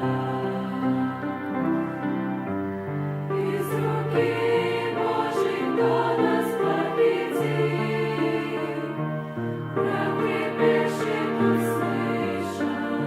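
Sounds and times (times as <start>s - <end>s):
church choir singing a hymn: 0.0s - 13.0s.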